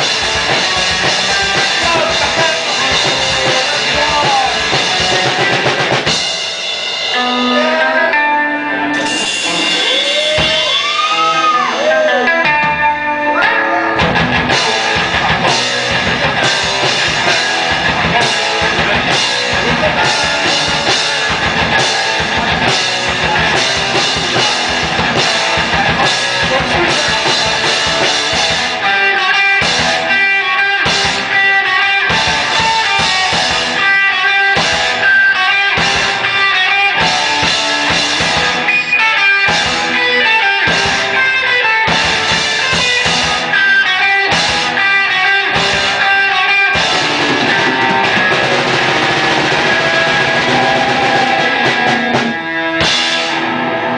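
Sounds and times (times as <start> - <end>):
drum kit: 0.0 - 53.9
electric guitars: 0.0 - 53.9.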